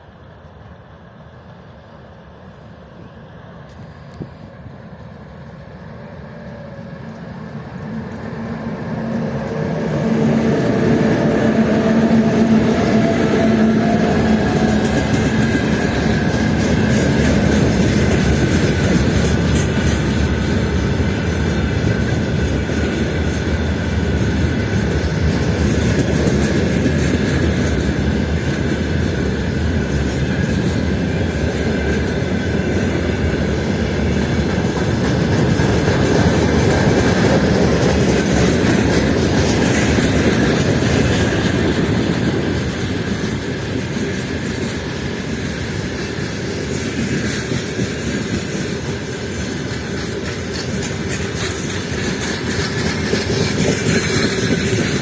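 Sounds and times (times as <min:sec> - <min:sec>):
train rumble: 0:00.0 - 0:55.0
train wheels clattering over rail joints: 0:04.0 - 0:55.0.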